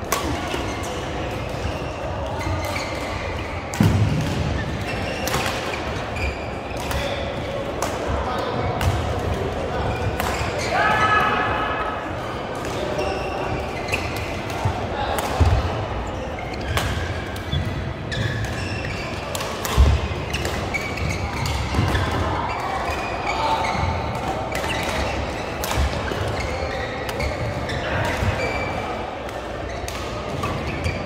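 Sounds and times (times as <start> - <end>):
faint players' voices: 0.0 - 31.0
shoes squeaking on court: 0.6 - 7.6, 12.3 - 14.7, 15.4 - 31.0.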